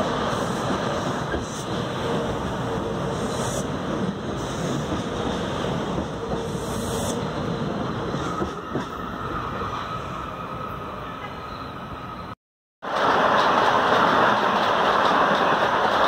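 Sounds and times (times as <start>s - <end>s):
train wheels rumbling and clattering: 0.0s - 9.9s, 12.8s - 16.0s.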